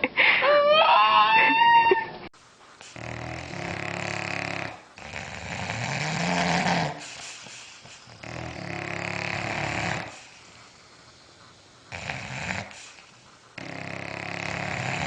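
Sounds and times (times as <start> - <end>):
dog snoring: 2.8 - 15.0.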